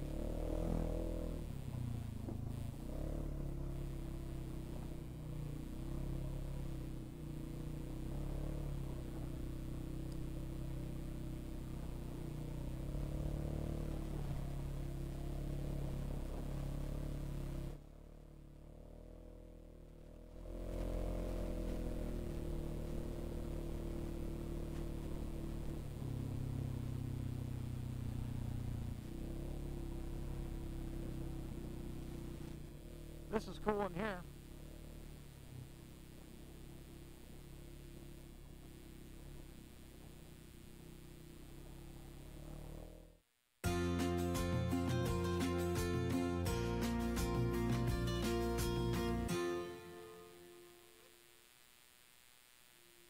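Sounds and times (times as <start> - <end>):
single-cylinder engine running: 0.0 - 50.5.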